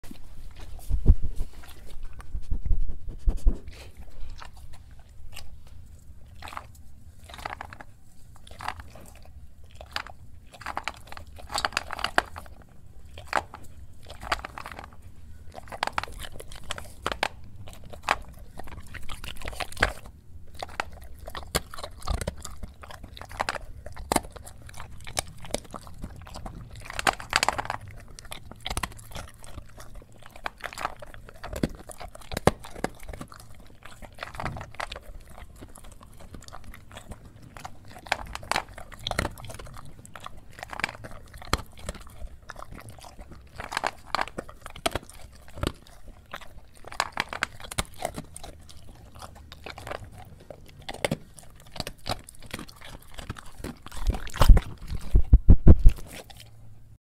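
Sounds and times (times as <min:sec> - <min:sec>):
dog chewing and crunching: 0:00.0 - 0:57.0
faint low hum: 0:00.0 - 0:57.0.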